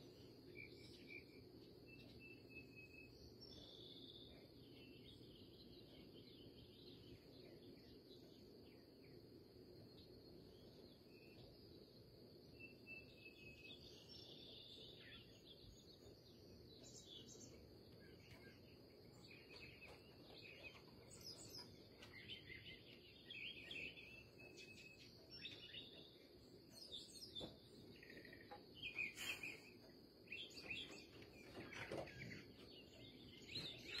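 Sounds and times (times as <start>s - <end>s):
songbirds singing and chirping: 0.0s - 34.0s.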